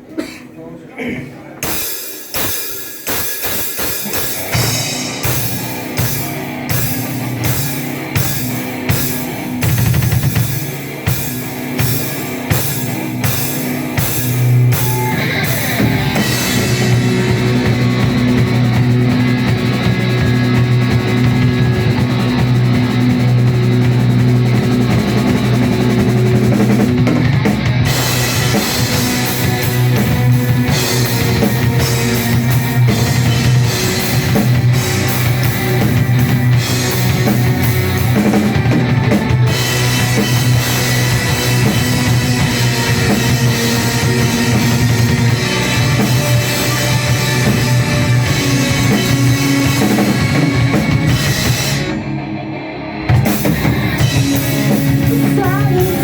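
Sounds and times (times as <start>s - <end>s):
pounding drum kit: 1.6s - 52.4s, 53.0s - 56.0s
distorted electric guitars: 1.6s - 56.0s.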